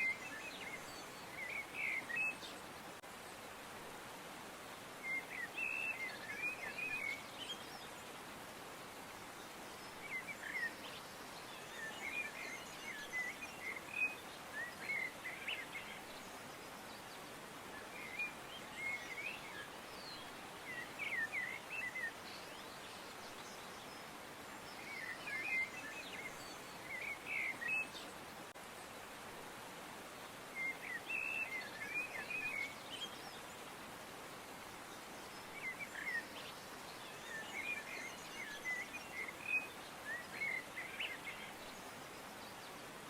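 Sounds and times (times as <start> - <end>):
background hiss: 0.0 - 43.0.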